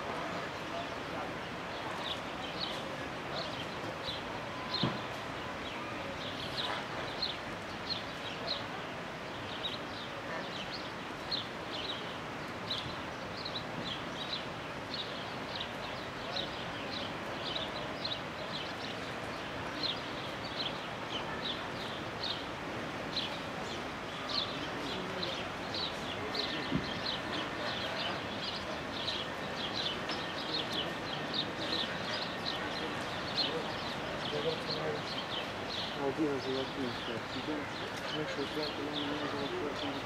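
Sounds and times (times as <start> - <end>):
background hiss: 0.0 - 40.0.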